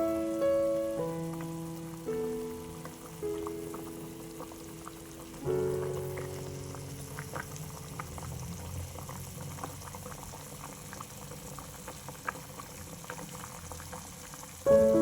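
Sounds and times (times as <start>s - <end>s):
food bubbling in a pan: 0.0s - 15.0s.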